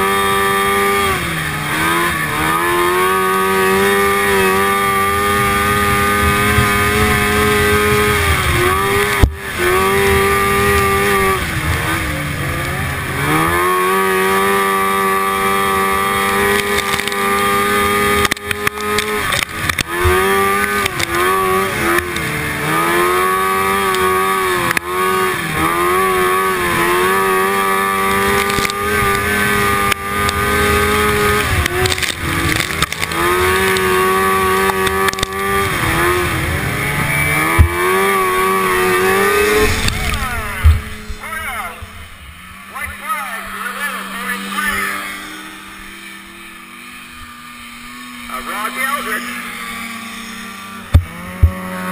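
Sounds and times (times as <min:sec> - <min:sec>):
snowmobile engine at high revs: 0:00.0 - 0:51.9.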